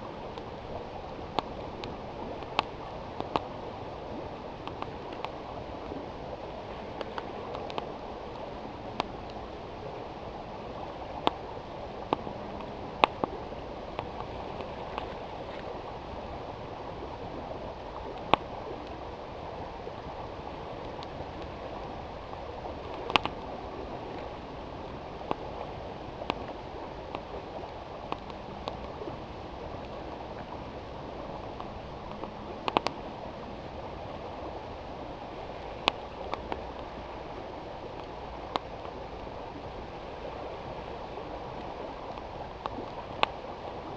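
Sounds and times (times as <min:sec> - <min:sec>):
campfire wood crackling and popping: 0:00.0 - 0:10.0, 0:10.7 - 0:33.0, 0:35.0 - 0:39.8
flowing river rushing: 0:00.0 - 0:43.9.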